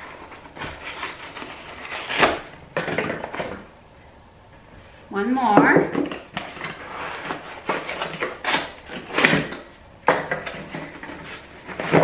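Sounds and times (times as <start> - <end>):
cardboard rustling and scraping: 0.0 - 3.7, 6.0 - 12.0.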